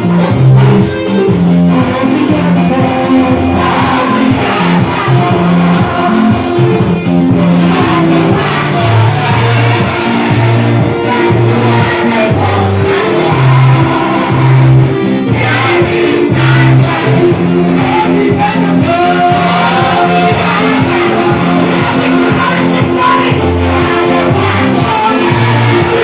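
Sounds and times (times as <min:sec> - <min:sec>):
band playing worship music: 0:00.0 - 0:26.0
voices singing: 0:00.0 - 0:26.0.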